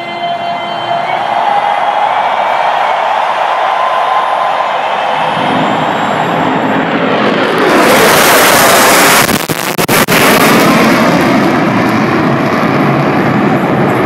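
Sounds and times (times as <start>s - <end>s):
fighter jets roaring overhead: 0.8s - 14.0s.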